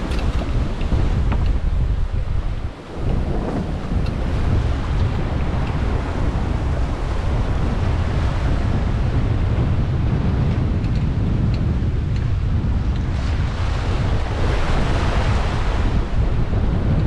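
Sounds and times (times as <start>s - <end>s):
sea rushing and breaking: 0.0s - 17.0s
wind buffeting microphone: 0.0s - 17.0s.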